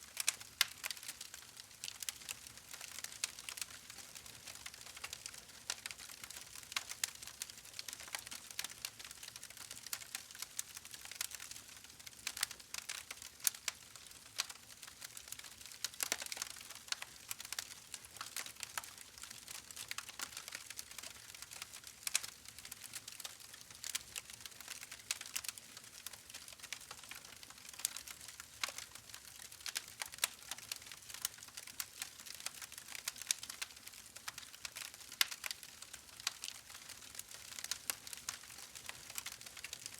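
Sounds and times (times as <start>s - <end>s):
soft irregular crackling: 0.0s - 39.9s.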